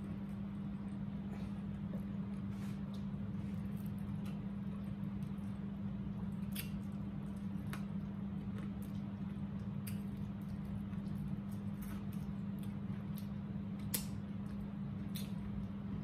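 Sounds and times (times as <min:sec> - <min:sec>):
steady low hum: 0:00.0 - 0:16.0
wet chewing and mouth smacks: 0:02.8 - 0:15.8.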